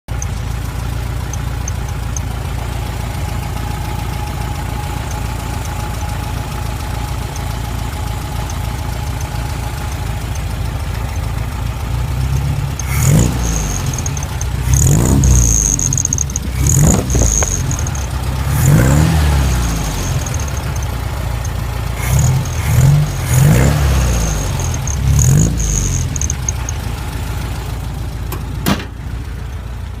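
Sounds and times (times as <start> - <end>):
engine idling and revving: 0.0 - 30.0.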